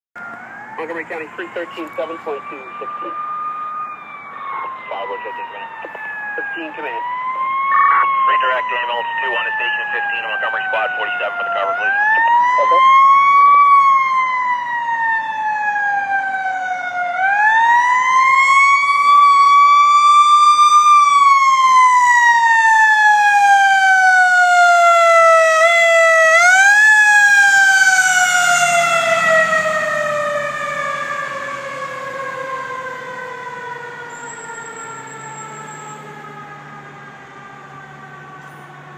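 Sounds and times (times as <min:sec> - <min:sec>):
fire engine siren wailing: 0:00.2 - 0:38.9.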